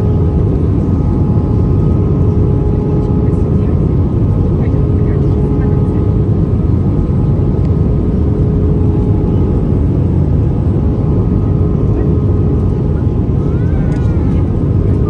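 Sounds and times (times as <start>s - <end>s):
airplane cabin engine and airflow rush: 0.0s - 15.0s
steady engine tone: 0.0s - 15.0s.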